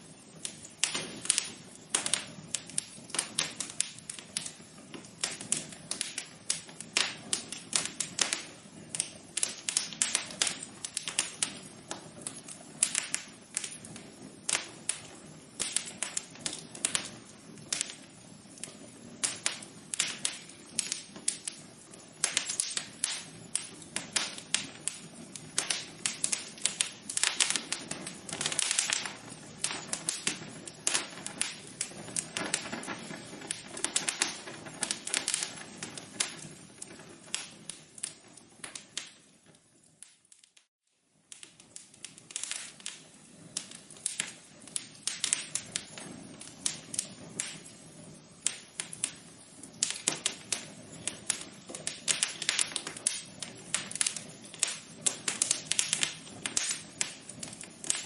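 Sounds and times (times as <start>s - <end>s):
fire crackling and popping: 0.0s - 58.0s
soft low hiss: 0.0s - 58.0s.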